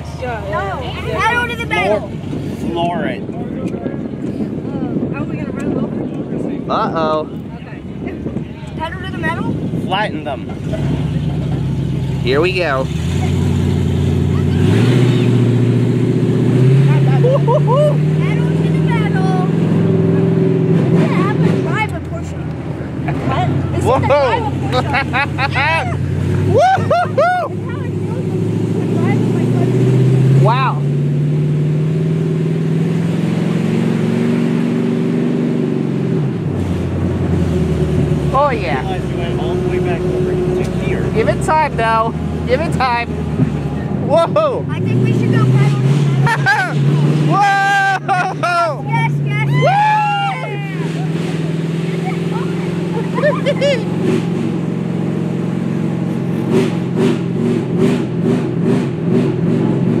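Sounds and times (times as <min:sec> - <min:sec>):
truck engine under throttle: 0:00.0 - 1:00.0.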